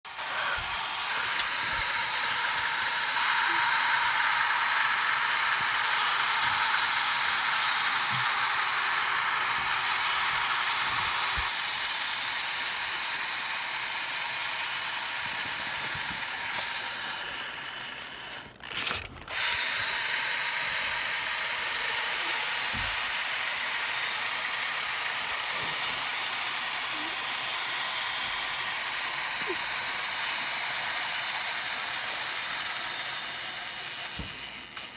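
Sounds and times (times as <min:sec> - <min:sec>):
harsh hissing mechanical noise: 0:00.1 - 0:34.9.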